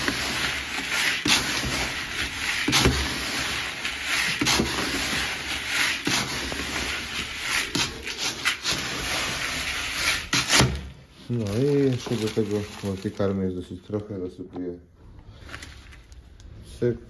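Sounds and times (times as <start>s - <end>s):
grain rustling in plastic bucket: 0.0s - 14.2s, 15.2s - 16.8s.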